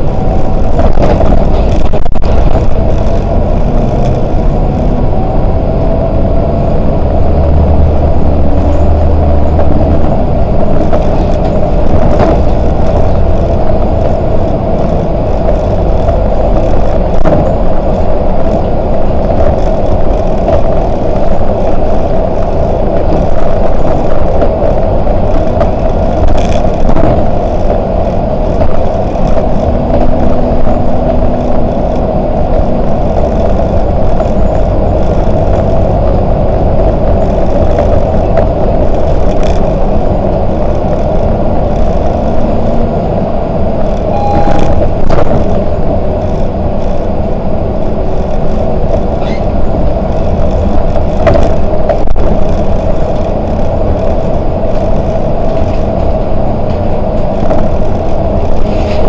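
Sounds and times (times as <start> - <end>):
clicks and rattles: 0.0 - 5.0, 8.6 - 42.9, 47.8 - 59.0
bus engine and road noise: 0.0 - 59.0.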